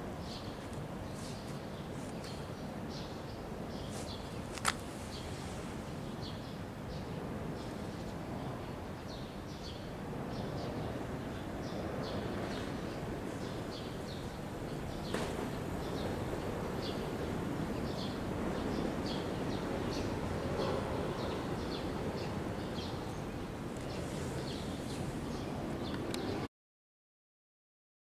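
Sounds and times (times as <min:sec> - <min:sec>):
steady background hum: 0:00.0 - 0:26.5
small birds chirping: 0:00.2 - 0:26.5.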